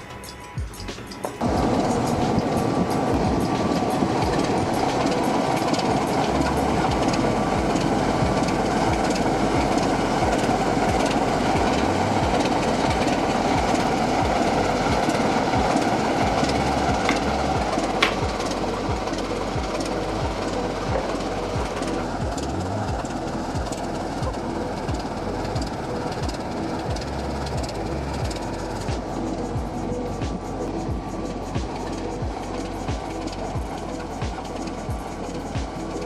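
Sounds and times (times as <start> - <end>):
wheels clicking over rail joints: 0.0 - 30.8
model train running noise: 1.2 - 36.0.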